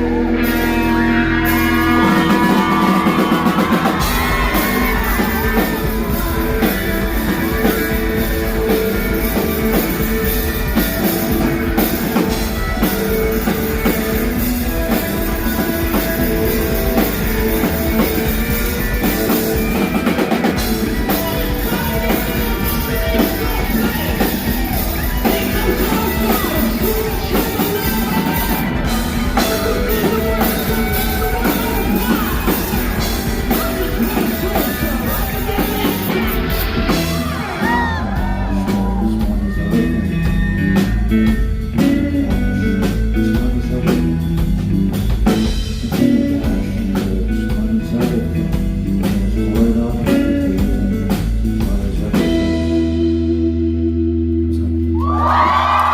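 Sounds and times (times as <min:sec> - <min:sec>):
person singing: 0:00.0 - 0:53.5
drum kit: 0:00.0 - 0:55.9
live rock band: 0:00.0 - 0:55.9.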